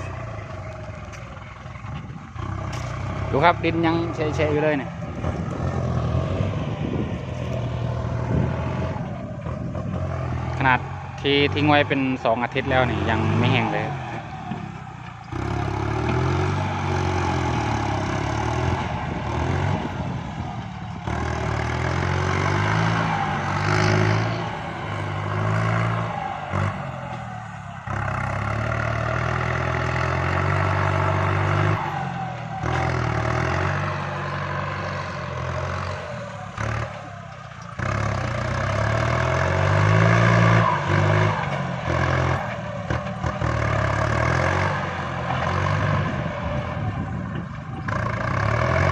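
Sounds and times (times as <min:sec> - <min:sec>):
tractor diesel engine under load: 0:00.0 - 0:48.9.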